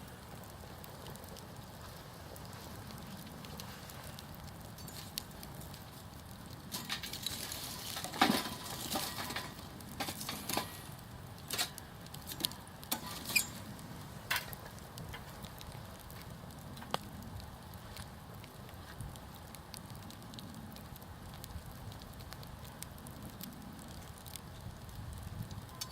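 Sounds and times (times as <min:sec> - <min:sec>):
campfire crackling and popping: 0:00.0 - 0:25.9
low hiss of burning: 0:00.0 - 0:25.9.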